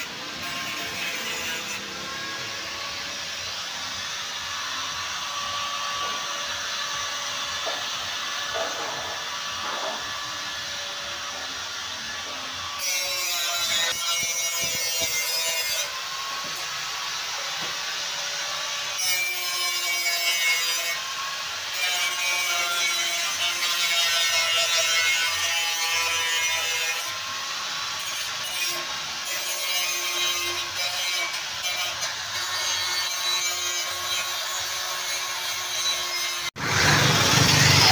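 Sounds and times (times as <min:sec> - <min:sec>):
angle grinder on metal: 0:00.0 - 0:37.9.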